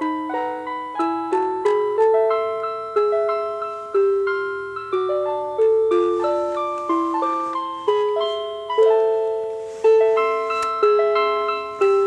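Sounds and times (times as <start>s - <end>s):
alarm clock chime melody: 0.0s - 12.0s.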